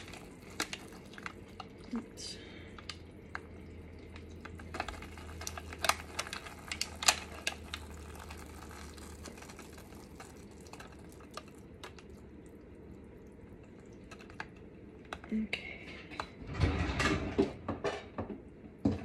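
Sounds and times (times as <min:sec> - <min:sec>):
pouring caramel clicking: 0:00.0 - 0:15.3.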